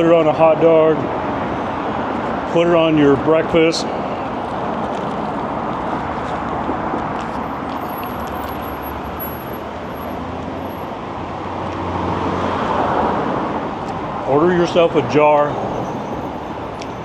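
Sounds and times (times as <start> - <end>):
cars rushing past: 0.0 - 17.0.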